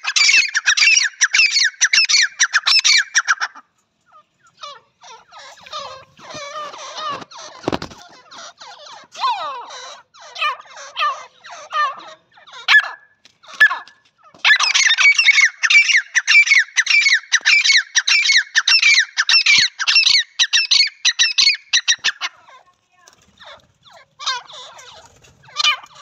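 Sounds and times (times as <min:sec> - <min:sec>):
francolins calling: 0:00.0 - 0:26.0.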